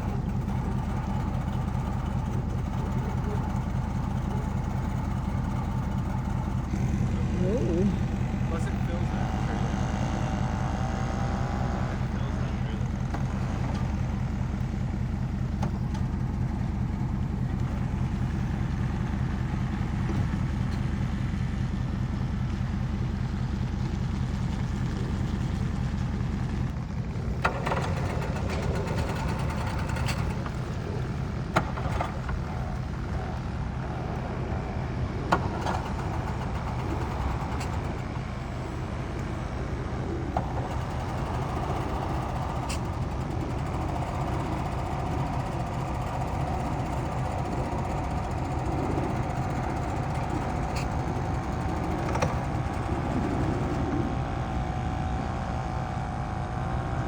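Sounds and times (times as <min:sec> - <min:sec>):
small engine pulsing drone: 0:00.0 - 0:57.0.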